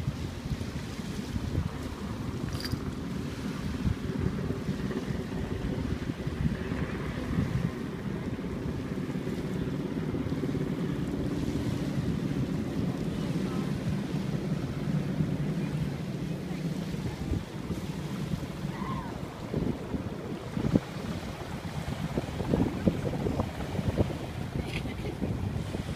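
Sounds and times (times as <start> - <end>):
small waves lapping: 0.0 - 25.9
wind buffeting microphone: 0.0 - 25.9.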